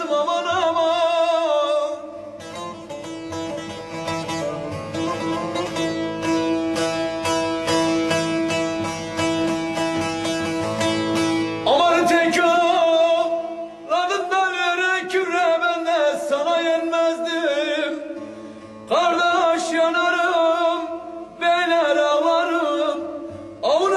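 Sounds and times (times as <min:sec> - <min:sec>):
man singing ornamented melody: 0:00.0 - 0:23.9.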